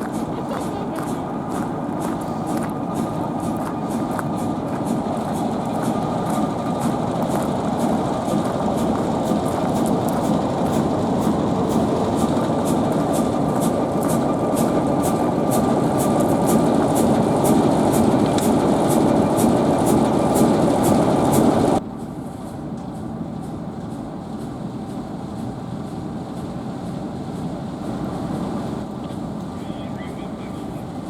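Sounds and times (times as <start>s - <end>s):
train noise: 0.0s - 31.0s.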